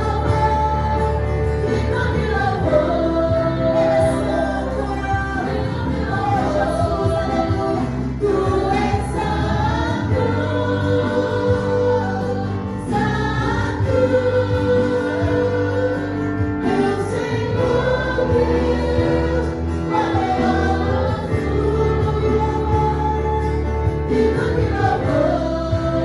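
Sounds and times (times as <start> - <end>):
backing vocalists singing: 0.0 - 26.0
band accompaniment: 0.0 - 26.0
woman singing lead: 0.0 - 26.0.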